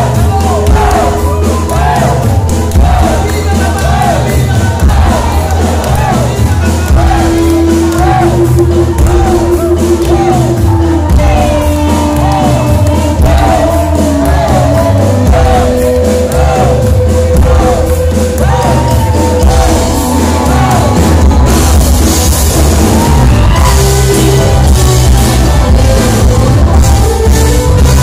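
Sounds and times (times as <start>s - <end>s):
amplified rock music: 0.0s - 28.0s
crowd shouting and whooping: 0.0s - 28.0s
voices singing into microphones: 0.0s - 28.0s.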